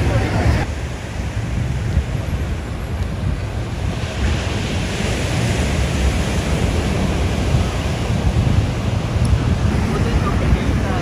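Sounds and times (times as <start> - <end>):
ocean surf breaking on beach: 0.0 - 11.0
wind rumbling on microphone: 0.0 - 11.0.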